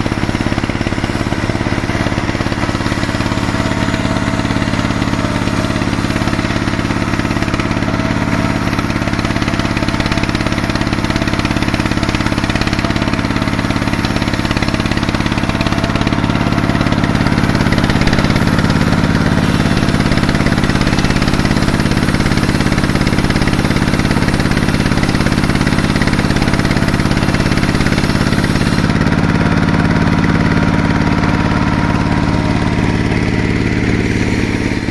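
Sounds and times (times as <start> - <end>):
engine drone: 0.0 - 34.9
saw ripping a log: 0.0 - 34.9.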